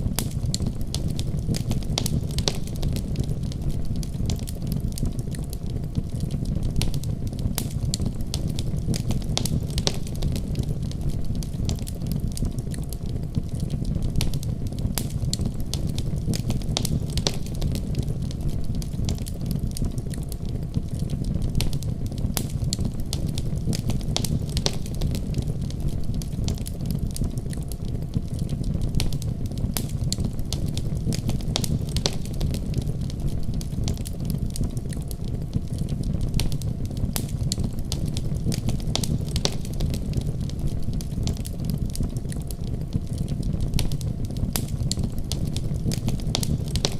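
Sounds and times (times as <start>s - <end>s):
fire crackles and pops: 0.0s - 46.9s
low rumble of flames: 0.0s - 46.9s.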